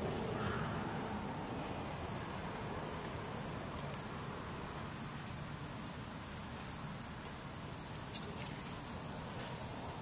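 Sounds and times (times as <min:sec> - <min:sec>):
background hiss: 0:00.0 - 0:10.0
insects buzzing: 0:00.0 - 0:10.0.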